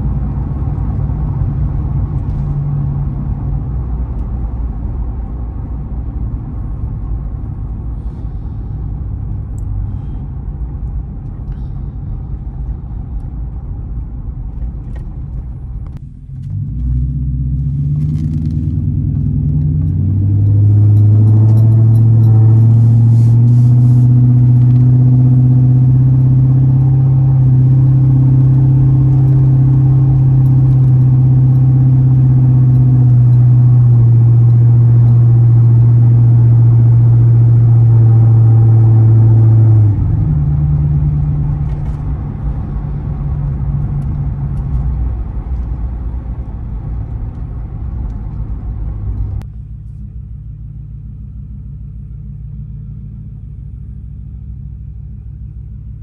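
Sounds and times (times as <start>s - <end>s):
car engine and road drone: 0.0s - 56.0s.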